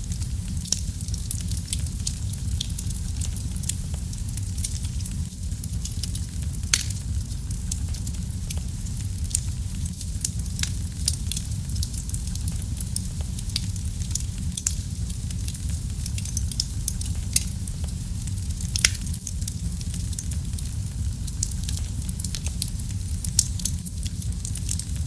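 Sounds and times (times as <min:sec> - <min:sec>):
low rumble of flames: 0:00.0 - 0:25.0
wood fire pops and snaps: 0:00.0 - 0:25.0.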